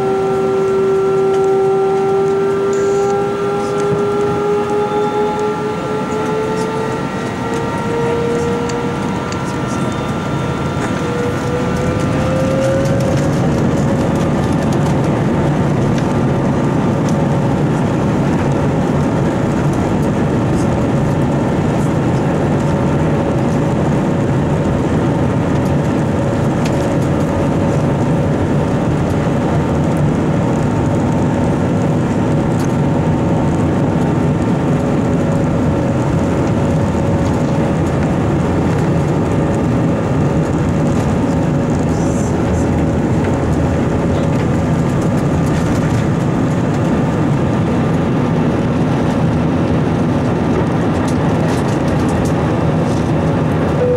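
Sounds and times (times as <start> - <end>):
jet engines roaring: 0.0 - 53.9
wheels rumbling on runway: 0.0 - 53.9.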